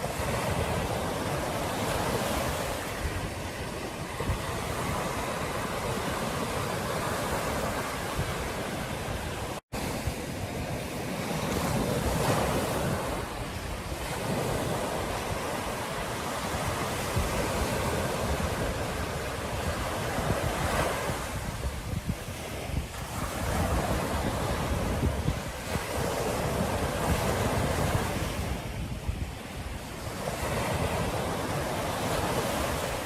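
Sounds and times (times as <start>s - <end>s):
ocean surf breaking on beach: 0.0s - 33.0s
wind rumbling on microphone: 0.0s - 33.0s.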